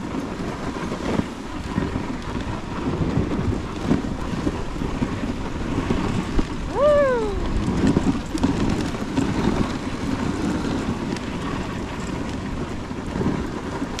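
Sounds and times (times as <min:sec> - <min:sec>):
sled runners hissing on snow: 0:00.0 - 0:06.6, 0:07.4 - 0:14.0
wind buffeting microphone: 0:00.0 - 0:14.0.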